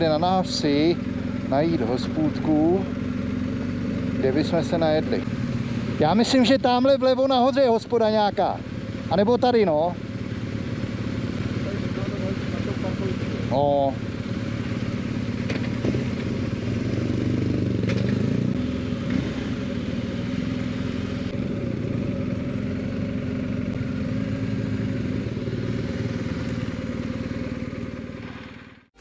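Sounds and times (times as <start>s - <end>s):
motorcycle engine at low revs: 0.0s - 29.0s.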